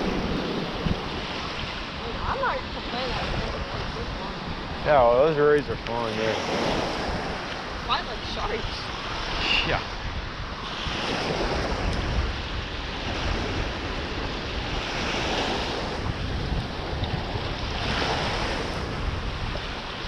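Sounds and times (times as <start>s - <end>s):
small surf waves washing in: 0.0s - 20.0s
wind rumbling on microphone: 0.0s - 20.0s.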